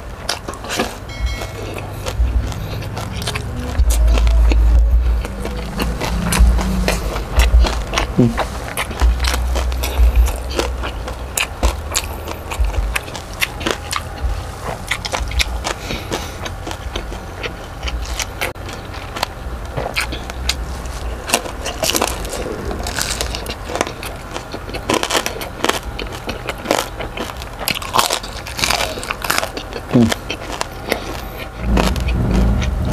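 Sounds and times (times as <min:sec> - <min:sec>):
crunchy chewing: 0:00.0 - 0:32.9.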